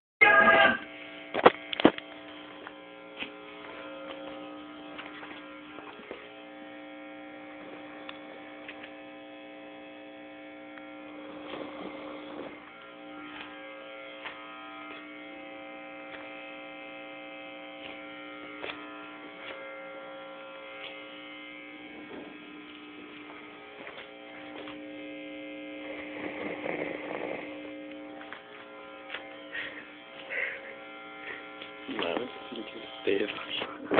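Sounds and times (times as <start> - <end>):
steady droning hum: 0.2 - 33.9.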